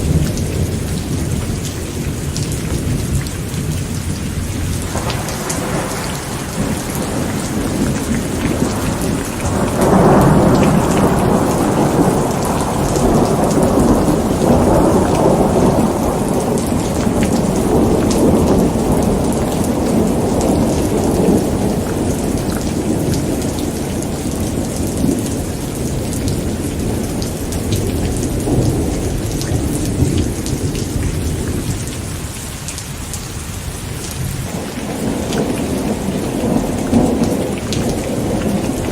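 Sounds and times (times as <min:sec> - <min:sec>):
thunder rolling: 0:00.0 - 0:32.0, 0:34.3 - 0:38.9
steady rain falling: 0:00.0 - 0:38.9.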